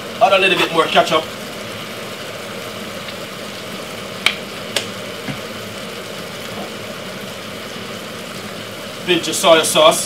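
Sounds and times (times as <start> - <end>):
kitchen background hum: 0.0 - 10.0.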